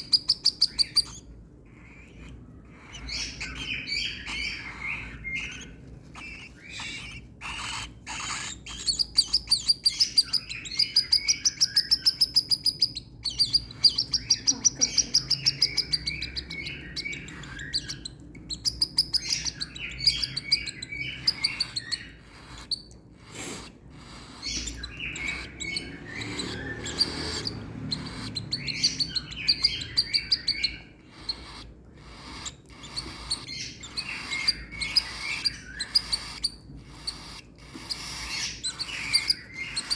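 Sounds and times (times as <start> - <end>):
baby bird begging chirps: 0.0 - 39.9.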